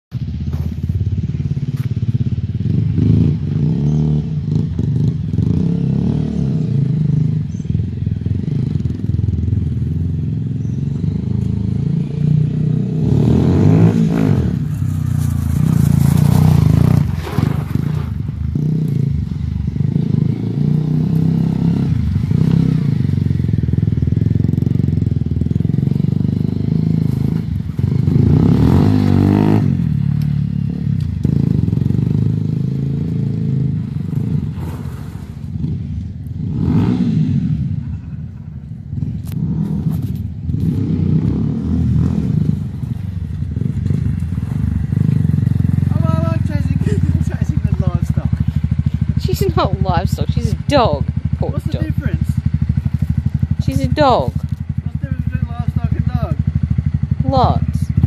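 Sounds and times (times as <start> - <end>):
motorcycle engine running: 0.1 - 58.0.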